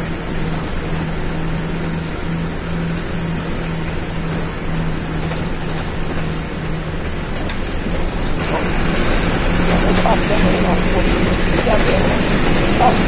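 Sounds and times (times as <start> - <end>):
bus engine drone: 0.0 - 13.0
road noise: 0.0 - 13.0.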